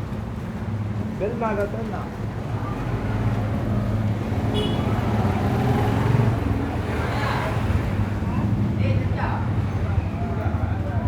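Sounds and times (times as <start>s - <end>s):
street traffic engine hum: 0.0s - 11.0s.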